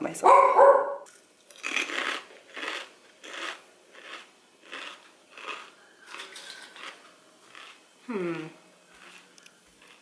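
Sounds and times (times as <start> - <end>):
corn chips crunching: 1.0 - 10.0.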